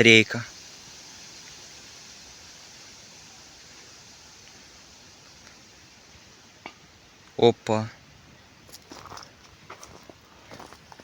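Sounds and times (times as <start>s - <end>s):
campfire hiss: 0.0s - 11.0s.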